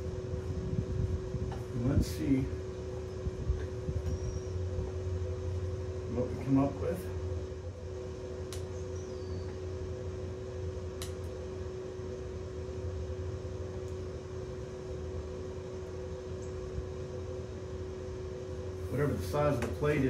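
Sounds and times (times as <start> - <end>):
generator humming: 0.0 - 20.0.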